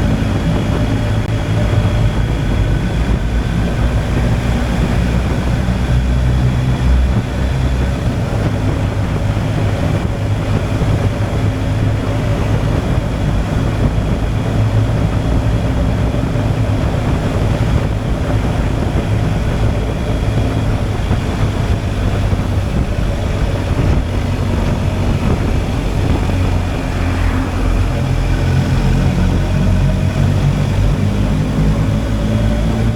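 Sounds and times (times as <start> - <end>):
motorcycle engine running: 0.0 - 32.9
wind rush over microphone: 0.0 - 32.9.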